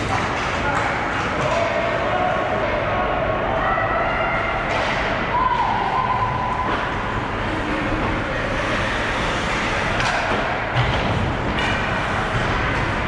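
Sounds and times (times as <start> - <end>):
crowd and rink noise: 0.0 - 13.0.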